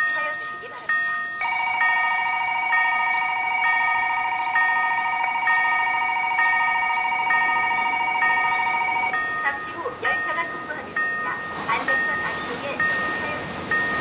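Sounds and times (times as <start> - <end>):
higher chime: 0.0 - 14.0
railroad crossing bell ringing: 0.0 - 14.0.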